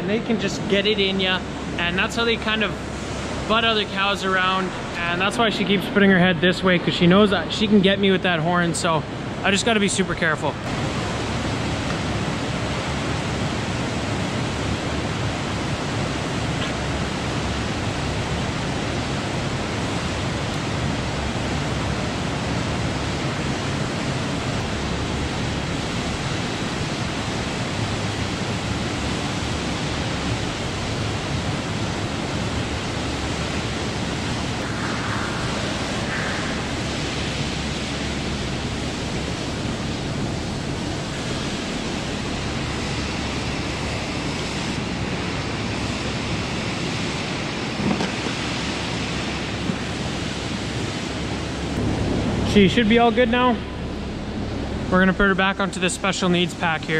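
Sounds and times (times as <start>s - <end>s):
steady rushing noise: 0.0s - 56.9s.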